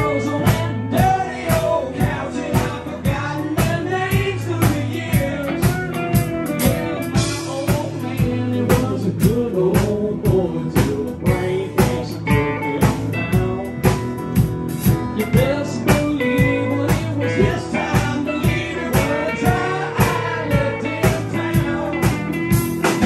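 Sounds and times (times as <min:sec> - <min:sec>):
acoustic and electric guitars: 0:00.0 - 0:23.0
drum kit beat: 0:00.0 - 0:23.0
man singing: 0:00.0 - 0:23.0.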